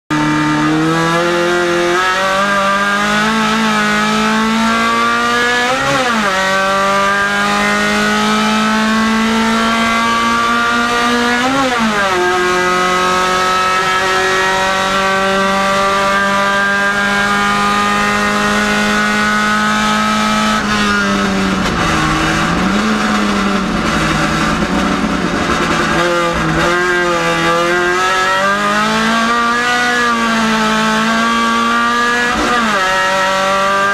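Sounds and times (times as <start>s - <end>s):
race car engine accelerating: 0.1s - 33.9s.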